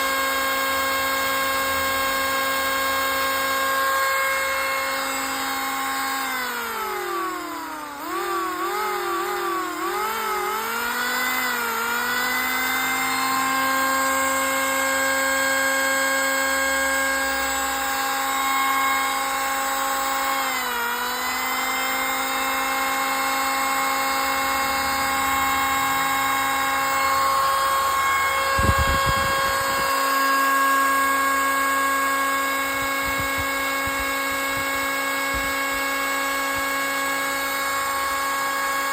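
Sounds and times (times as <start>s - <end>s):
electric planer whining: 0.0s - 38.9s.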